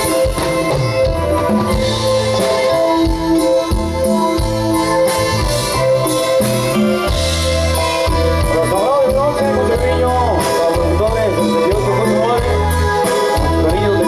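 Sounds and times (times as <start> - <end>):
live band playing instrumental: 0.0 - 14.0.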